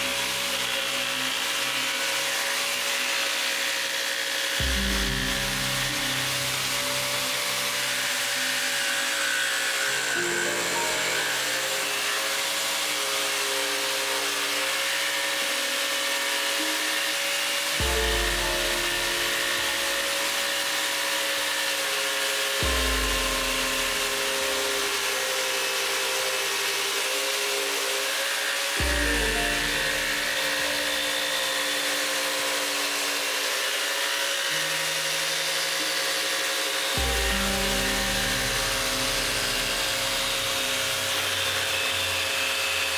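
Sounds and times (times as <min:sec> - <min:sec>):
scroll saw cutting plywood: 0:00.0 - 0:42.9.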